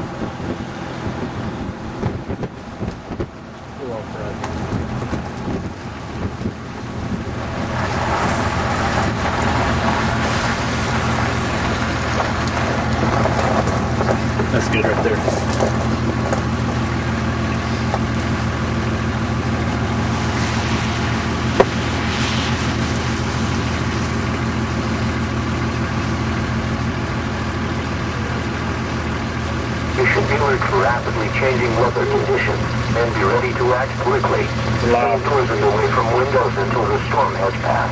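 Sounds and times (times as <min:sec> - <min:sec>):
vehicle engine and road hum: 0:00.0 - 0:37.9
wind and rain rushing: 0:00.0 - 0:37.9.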